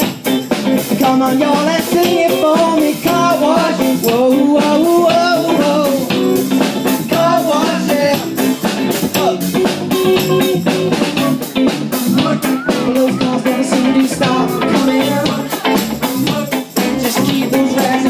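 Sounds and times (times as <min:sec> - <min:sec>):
drum kit beat: 0:00.0 - 0:18.0
electric guitar: 0:00.0 - 0:18.0
funk band playing: 0:00.0 - 0:18.0
person singing: 0:01.0 - 0:06.4, 0:07.0 - 0:11.4, 0:12.0 - 0:18.0.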